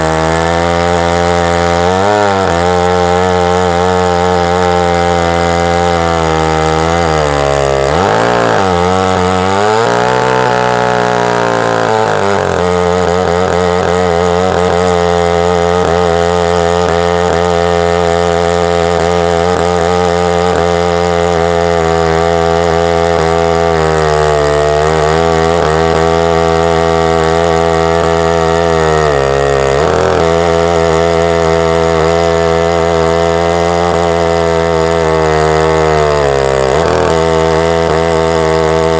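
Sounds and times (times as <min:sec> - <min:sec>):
chainsaw cutting at full speed: 0:00.0 - 0:38.9.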